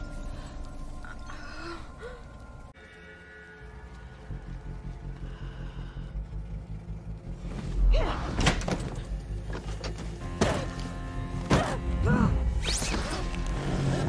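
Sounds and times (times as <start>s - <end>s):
low droning horror score: 0.0s - 14.0s.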